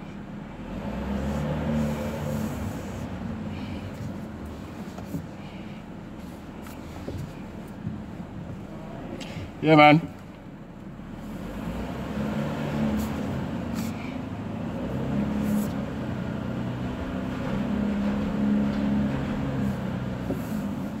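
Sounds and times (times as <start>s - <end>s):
car engine humming: 0.0s - 21.0s.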